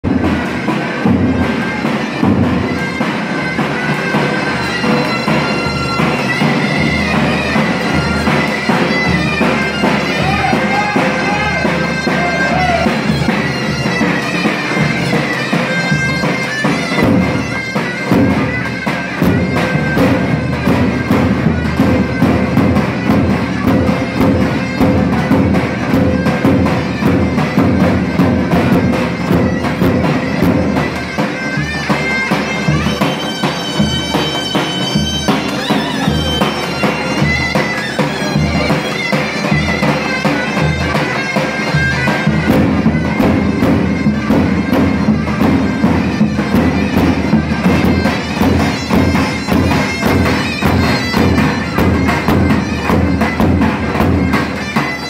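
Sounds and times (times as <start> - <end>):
shawm reed melody: 0.1 - 55.0.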